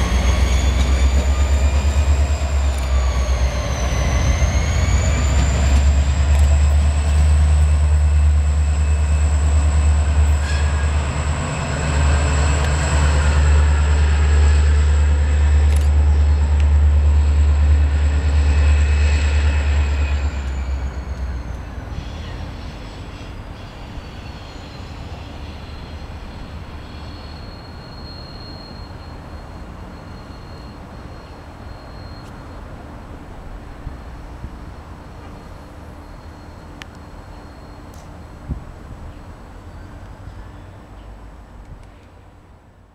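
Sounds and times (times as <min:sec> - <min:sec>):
locomotive high whine: 0:00.0 - 0:42.2
diesel locomotive rumble: 0:00.0 - 0:42.9.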